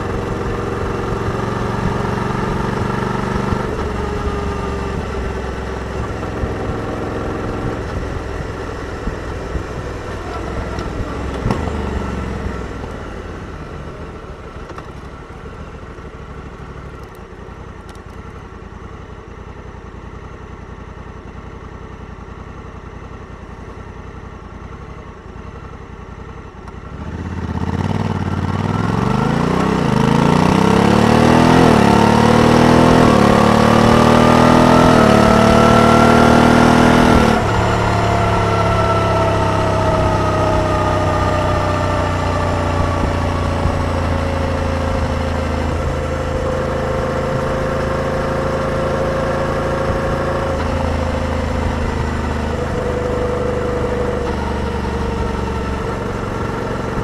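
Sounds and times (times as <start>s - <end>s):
motorcycle engine revving through gears: 0.0s - 19.2s, 24.2s - 57.0s.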